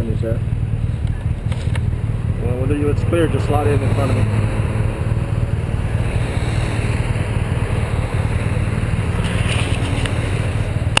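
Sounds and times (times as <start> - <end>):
motorcycle engine low drone: 0.0 - 11.0.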